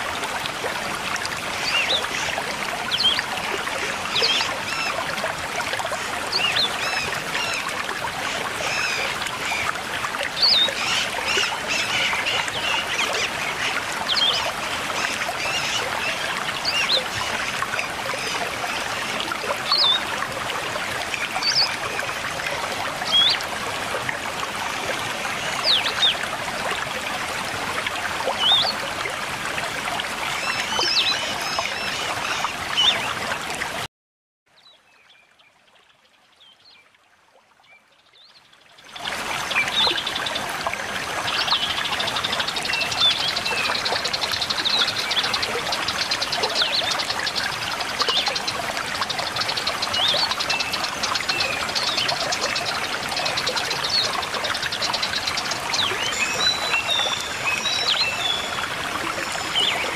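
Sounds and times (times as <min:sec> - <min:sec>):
stream water rushing: 0:00.0 - 0:33.9, 0:38.8 - 0:59.9.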